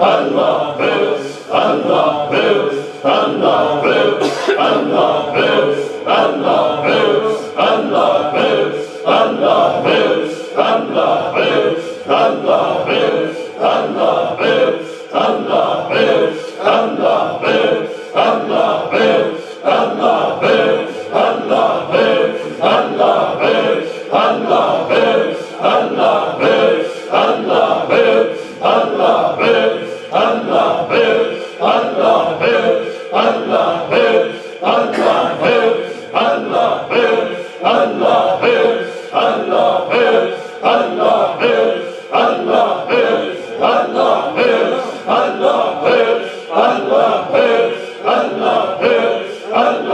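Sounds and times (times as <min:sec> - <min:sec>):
men chanting in unison: 0:00.0 - 0:49.9.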